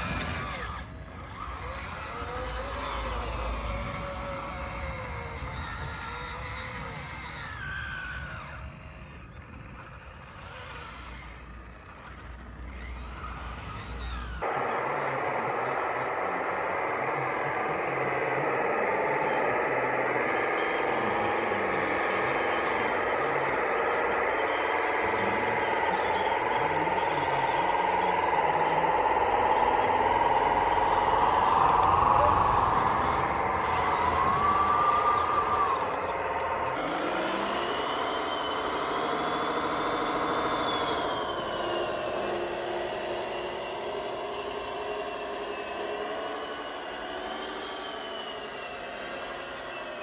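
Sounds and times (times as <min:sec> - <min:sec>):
loud steady rattling: 0:00.0 - 0:50.0
model machine motors whining: 0:00.0 - 0:50.0.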